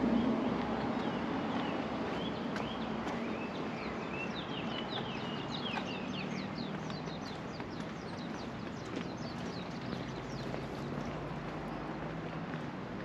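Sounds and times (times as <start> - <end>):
small birds chirping: 0.9 - 12.0.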